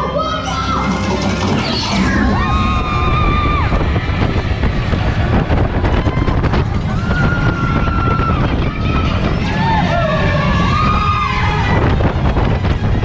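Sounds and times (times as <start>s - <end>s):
roller coaster train rumbling: 0.0s - 13.0s
wind buffeting microphone: 1.6s - 13.0s.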